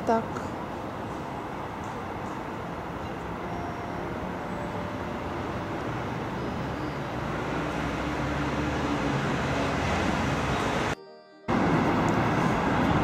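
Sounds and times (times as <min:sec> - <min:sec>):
passing cars rumbling: 0:00.0 - 0:13.0.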